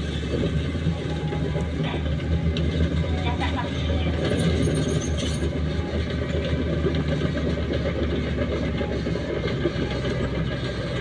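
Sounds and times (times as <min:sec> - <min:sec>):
bulldozer diesel engine: 0:00.0 - 0:11.0.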